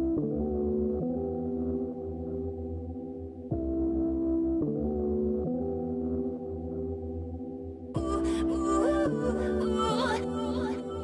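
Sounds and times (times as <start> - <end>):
background music chord over bass: 0.0 - 11.0.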